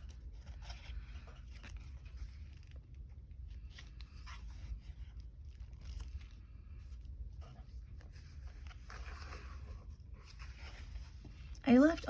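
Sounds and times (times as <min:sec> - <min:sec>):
low steady hum: 0:00.0 - 0:12.0
paper pages rustling: 0:00.0 - 0:12.0
soft crackles: 0:00.0 - 0:12.0.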